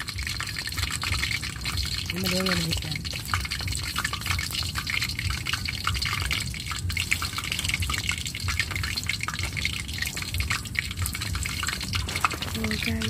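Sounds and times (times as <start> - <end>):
fritters frying in oil: 0.0 - 13.0.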